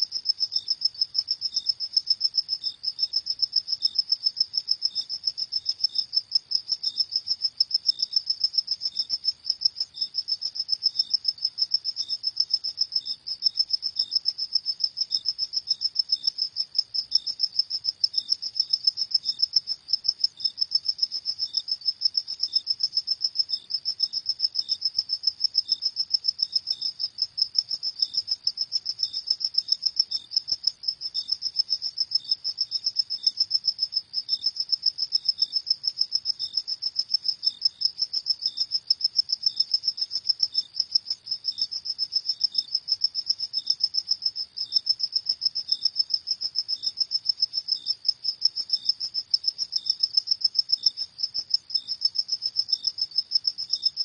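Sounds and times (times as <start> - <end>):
lower slower cricket chirp: 0.0 - 54.0.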